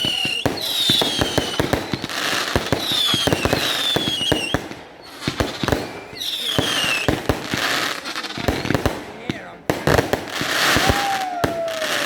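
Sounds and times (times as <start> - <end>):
falling firework whistles: 0.0 - 8.7, 10.4 - 12.0
fireworks cracking and banging: 0.0 - 12.0.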